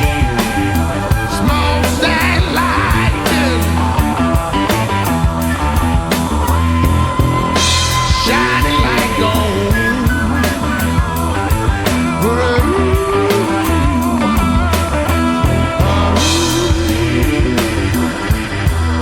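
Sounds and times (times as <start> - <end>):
electric blues band playing: 0.0 - 19.0.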